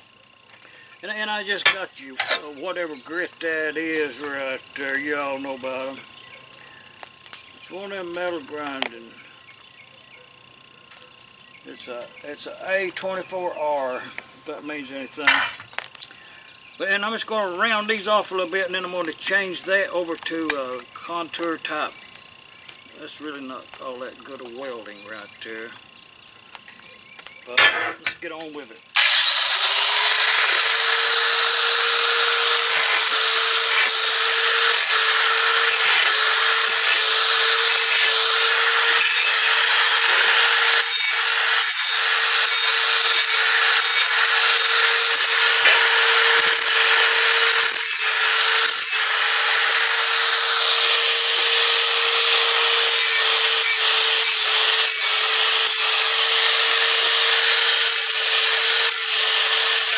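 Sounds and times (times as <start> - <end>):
angle grinder grinding metal: 0.0 - 9.4, 10.4 - 59.9.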